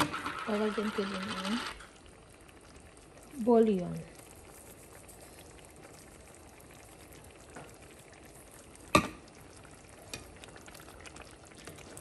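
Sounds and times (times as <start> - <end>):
stew bubbling and sizzling: 0.0 - 12.0.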